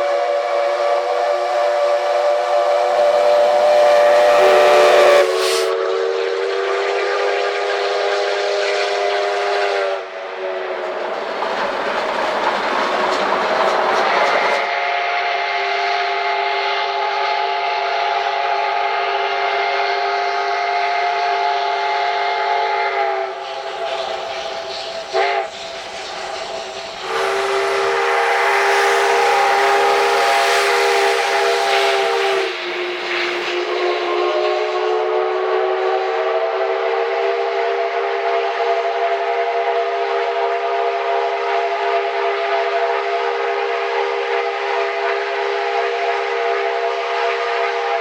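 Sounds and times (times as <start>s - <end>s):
running train: 0.0s - 48.0s
rush of steam: 0.0s - 48.0s
steam locomotive whistle: 0.0s - 48.0s.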